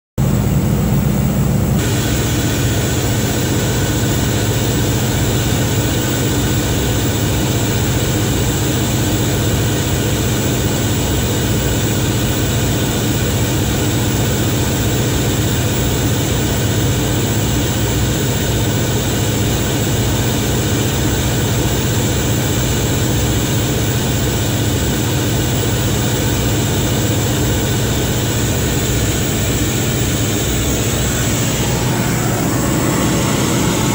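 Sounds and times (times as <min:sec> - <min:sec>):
generator engine droning: 0:00.2 - 0:33.9.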